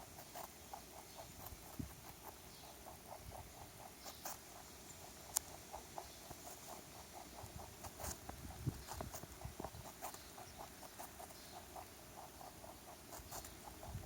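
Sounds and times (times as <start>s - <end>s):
rabbit crunching carrot: 0.0s - 14.0s.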